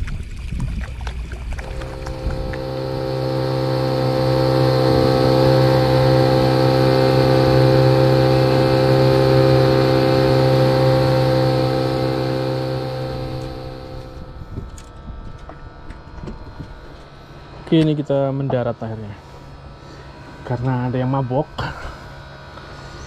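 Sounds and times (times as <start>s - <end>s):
outboard motor running: 0.3s - 23.0s.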